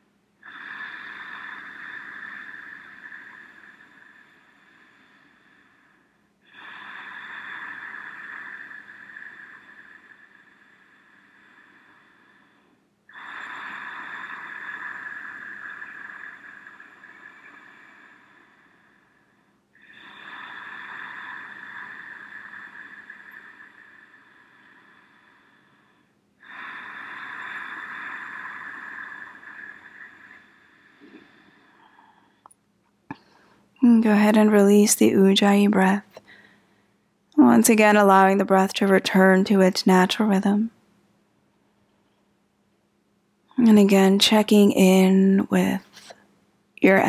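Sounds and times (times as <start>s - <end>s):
woman breathing slowly: 0.0s - 33.9s, 36.0s - 37.4s, 40.7s - 43.6s.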